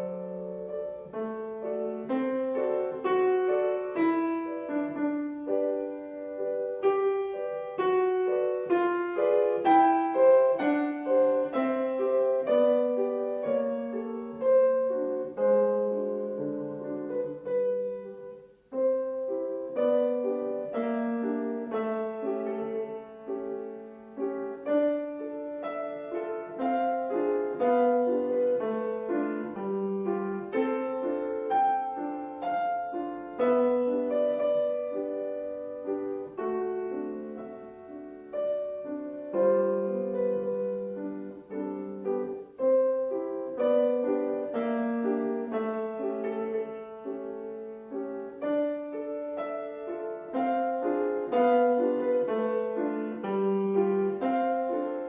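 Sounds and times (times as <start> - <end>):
piano playing classical piece: 0.0 - 55.0.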